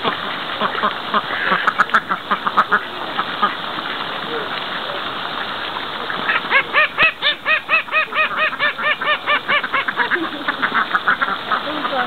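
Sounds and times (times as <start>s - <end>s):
duck quacking: 0.0s - 12.0s.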